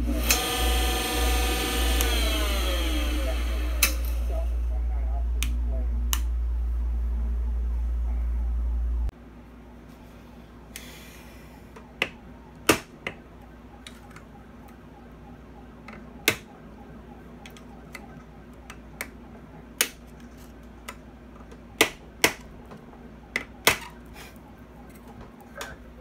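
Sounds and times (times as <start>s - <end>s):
faint low hum: 2.0s - 26.0s.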